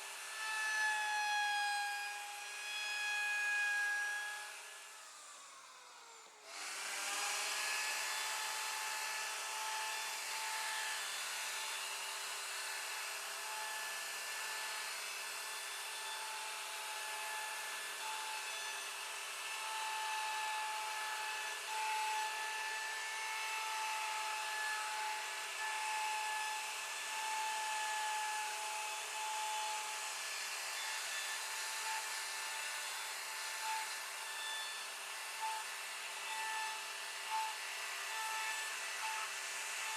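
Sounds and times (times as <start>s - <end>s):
cnc spindle whine: 0.0s - 39.9s
router bit cutting hiss: 0.0s - 39.9s.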